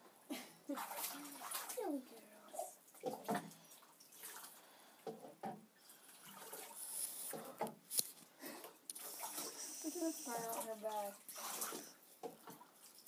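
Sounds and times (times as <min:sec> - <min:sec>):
water sloshing and splashing in bathtub: 0:00.0 - 0:13.0.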